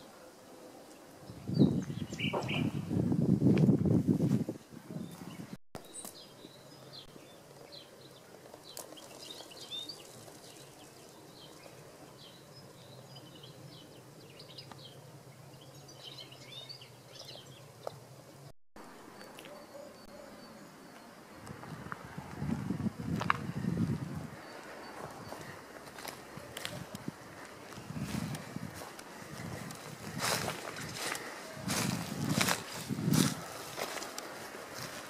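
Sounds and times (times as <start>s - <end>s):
small birds chirping: 0.0s - 3.0s, 4.6s - 35.0s.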